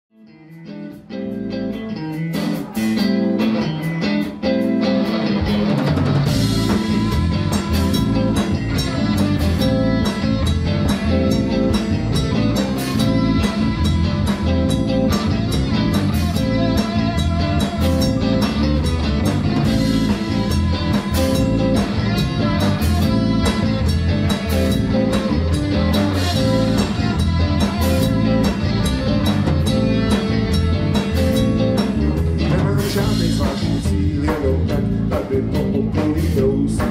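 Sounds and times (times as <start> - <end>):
lead electric guitar: 0.1 - 36.9
rock band playing live: 0.2 - 36.9.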